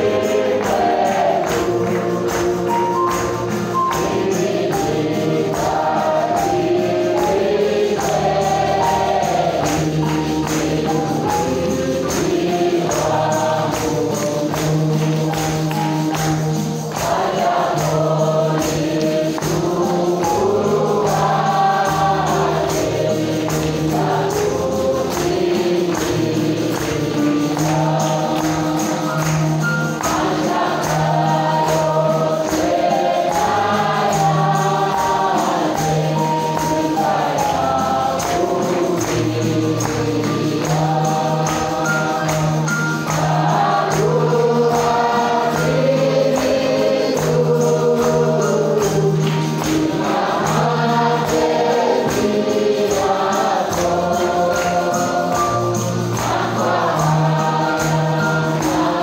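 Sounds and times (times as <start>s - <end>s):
group singing worship song: 0.0s - 59.0s
percussion beat: 0.0s - 59.0s.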